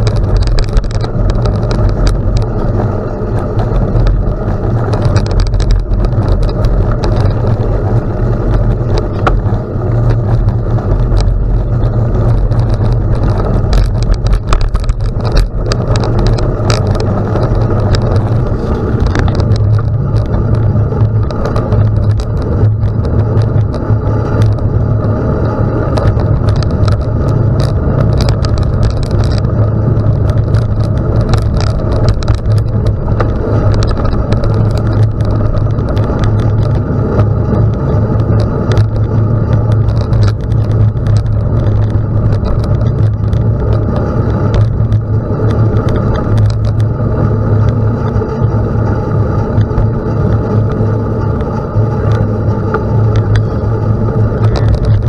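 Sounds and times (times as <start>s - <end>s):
bike clicks and rattles: 0.0s - 55.0s
tyres crunching over gravel: 0.0s - 55.0s
wind rumble on microphone: 0.0s - 55.0s.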